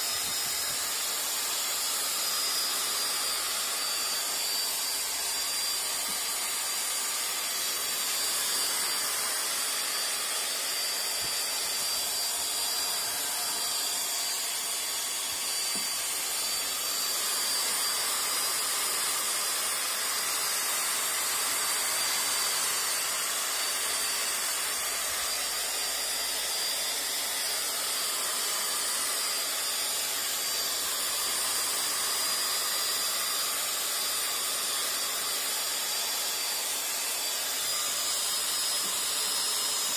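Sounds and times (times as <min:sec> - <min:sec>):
power tool buffing with whine: 0:00.0 - 0:39.9.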